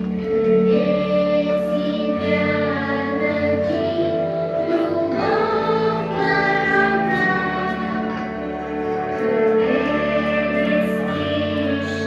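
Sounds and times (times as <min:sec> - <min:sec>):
choral singing with instruments: 0:00.0 - 0:12.0.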